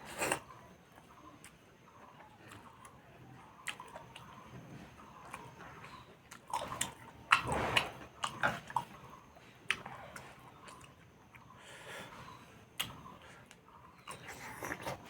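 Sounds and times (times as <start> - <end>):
biting and chewing food: 0.0 - 11.6, 12.3 - 15.0.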